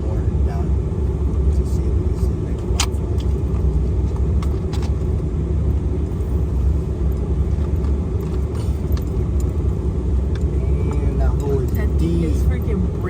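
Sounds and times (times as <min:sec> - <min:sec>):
vehicle rumbling along road: 0:00.0 - 0:13.0.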